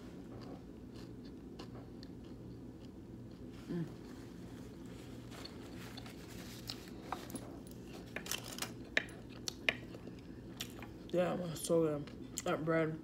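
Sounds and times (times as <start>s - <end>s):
steady low hum: 0.0s - 13.0s
person chewing sandwich: 0.1s - 11.1s.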